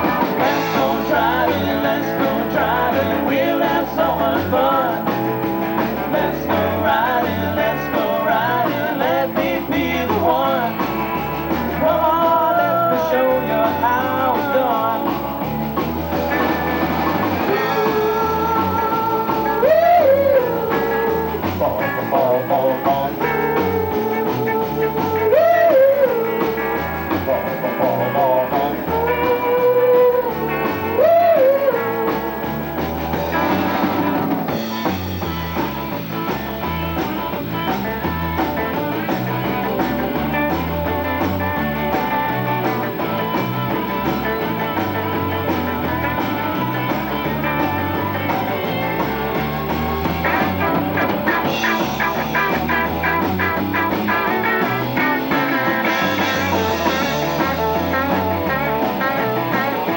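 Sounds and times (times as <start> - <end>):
drum kit beat: 0.0 - 59.9
electric guitar: 0.0 - 59.9.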